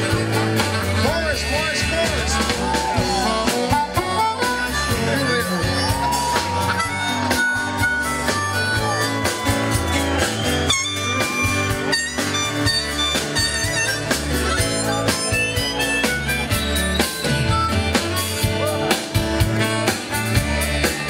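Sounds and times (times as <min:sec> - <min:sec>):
harmonica solo: 0:00.0 - 0:21.0
live band playing: 0:00.0 - 0:21.0.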